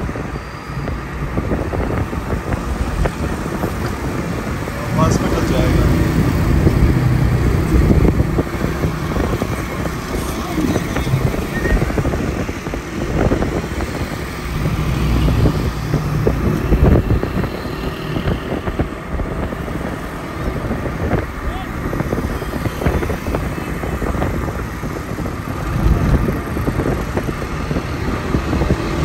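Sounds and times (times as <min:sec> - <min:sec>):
motorcycles passing close: 0:00.0 - 0:29.0
road and engine rumble: 0:00.0 - 0:29.0.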